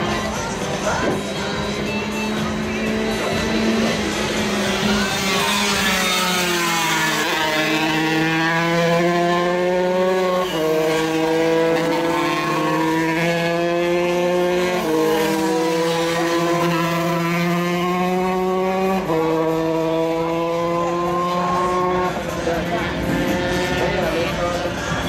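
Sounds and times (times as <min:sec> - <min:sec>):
racing motorcycle engine revving: 0:00.0 - 0:25.0.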